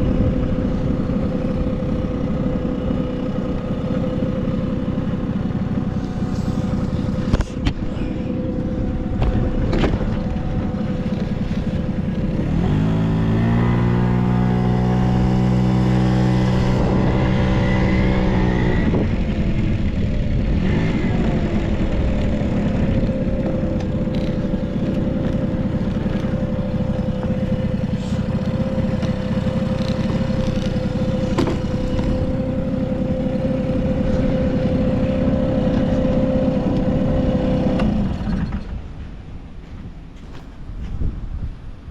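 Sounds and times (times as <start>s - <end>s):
scooter engine idling and revving: 0.0s - 40.8s.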